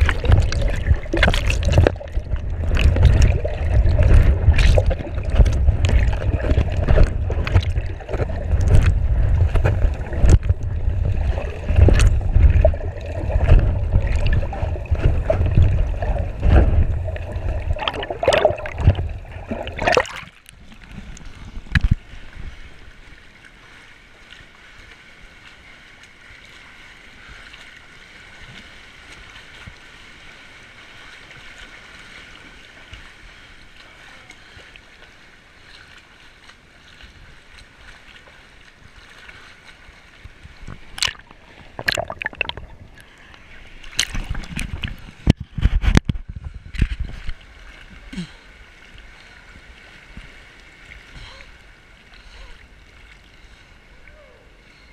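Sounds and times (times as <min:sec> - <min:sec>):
water sloshing and splashing: 0:00.0 - 0:54.9.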